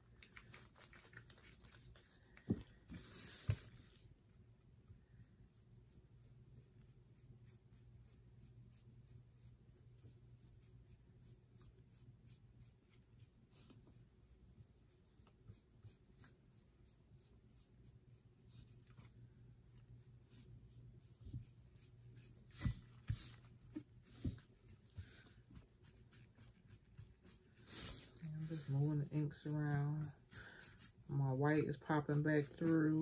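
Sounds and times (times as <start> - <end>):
sponge brush dabbing on metal tray: 5.5 - 33.0.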